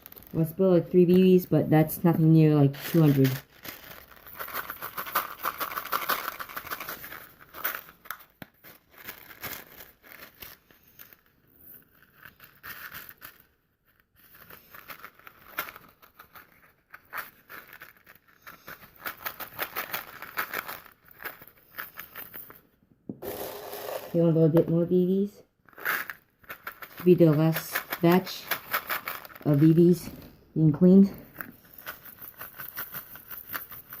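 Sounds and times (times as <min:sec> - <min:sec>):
paper crinkling: 0:00.0 - 0:00.4, 0:02.7 - 0:22.6, 0:25.7 - 0:30.2, 0:31.3 - 0:34.0
plastic pellets clicking and rattling: 0:00.0 - 0:01.4, 0:02.7 - 0:24.8, 0:25.6 - 0:30.3, 0:31.3 - 0:34.0.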